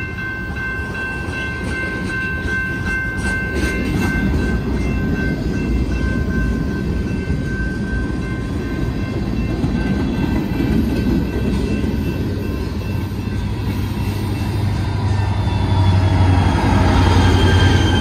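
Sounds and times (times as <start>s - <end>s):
diesel locomotive engine hum: 0.0s - 18.0s
train wheels rumbling on rails: 0.0s - 18.0s.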